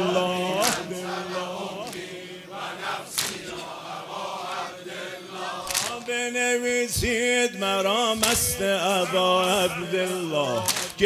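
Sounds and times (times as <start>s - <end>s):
men chanting together: 0.0s - 11.0s.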